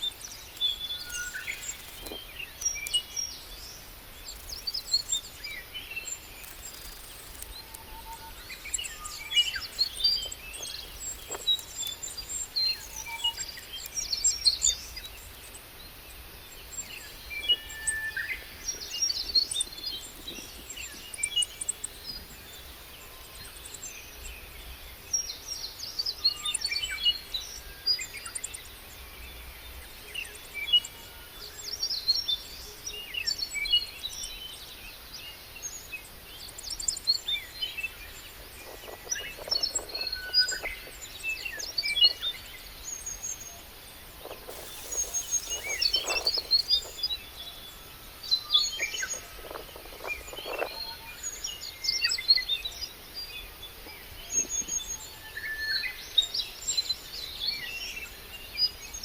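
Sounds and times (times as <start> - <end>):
faint background noise: 0.0 - 59.0
small birds chirping and singing: 0.0 - 59.0.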